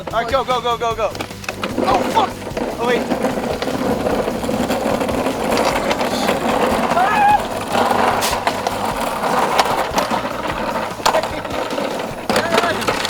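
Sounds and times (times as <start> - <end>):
mini dirt bike rattling: 0.0 - 13.0
knocks and clicks: 0.1 - 13.0.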